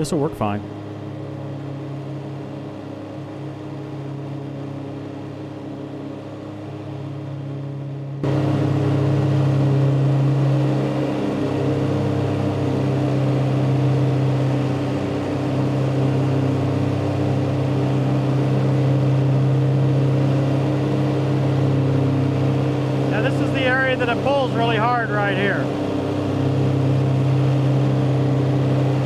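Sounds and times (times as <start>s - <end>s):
tractor engine droning: 0.0s - 29.0s.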